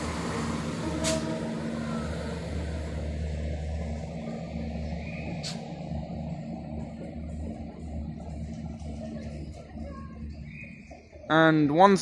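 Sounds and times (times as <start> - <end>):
diesel train engines droning: 0.0 - 12.0.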